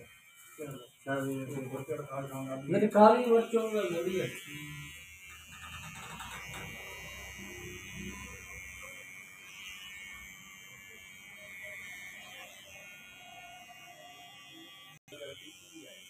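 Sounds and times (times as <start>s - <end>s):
electric hair trimmer buzzing: 0.0s - 16.0s.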